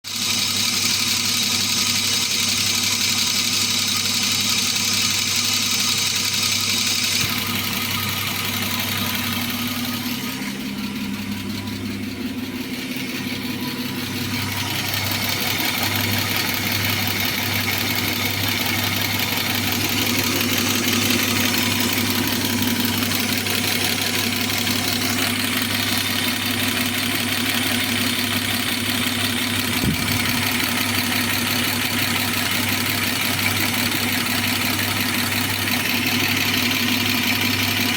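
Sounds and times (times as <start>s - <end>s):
car engine idling: 0.1s - 37.9s.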